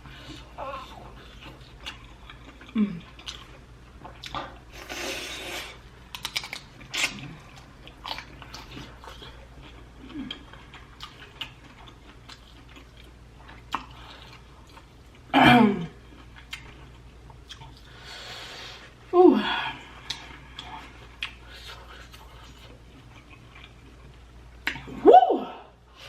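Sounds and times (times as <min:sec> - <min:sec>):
wet chewing: 0:00.1 - 0:15.3, 0:16.0 - 0:18.0, 0:20.0 - 0:24.9.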